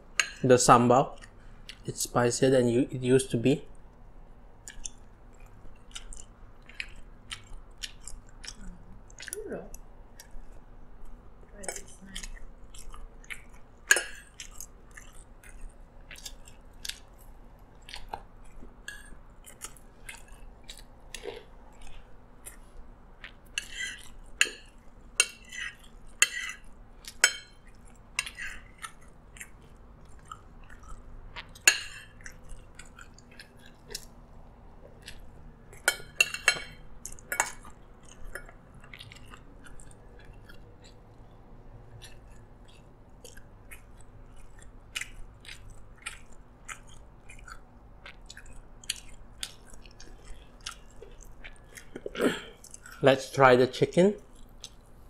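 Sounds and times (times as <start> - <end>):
chewing rice: 1.1 - 2.0, 4.6 - 53.4, 54.2 - 55.0.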